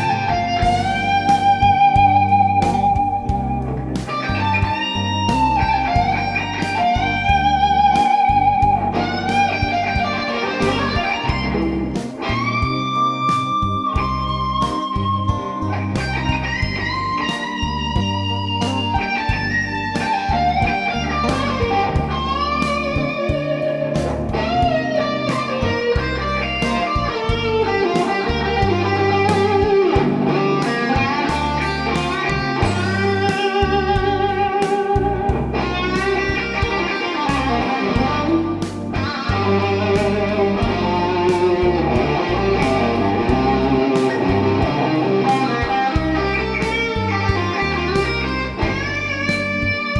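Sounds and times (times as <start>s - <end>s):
electric guitar lead: 0.0s - 49.9s
low bass backing: 0.0s - 49.9s.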